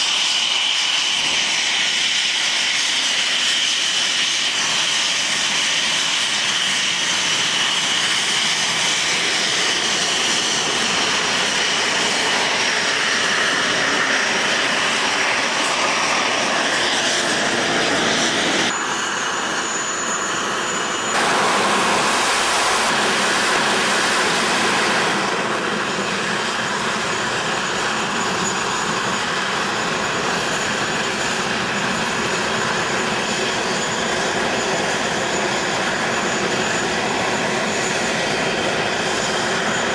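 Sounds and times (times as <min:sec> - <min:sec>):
jet engines rushing with high whine: 0:00.0 - 0:39.9.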